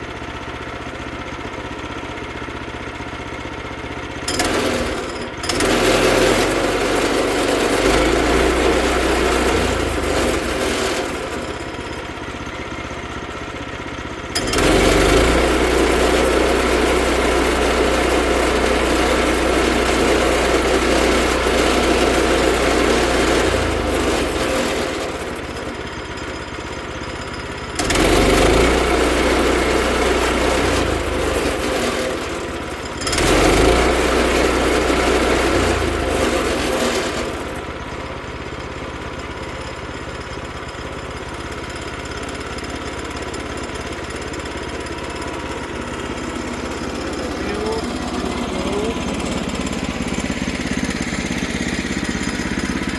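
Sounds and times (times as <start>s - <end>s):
small gasoline engine revving: 1.8s - 52.9s.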